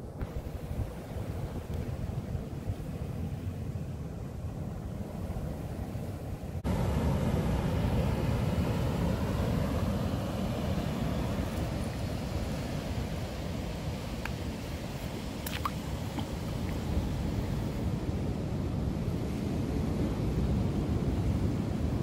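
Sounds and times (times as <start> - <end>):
surf on rocky shore: 0.0 - 22.0
wind rumbling on microphone: 0.0 - 22.0.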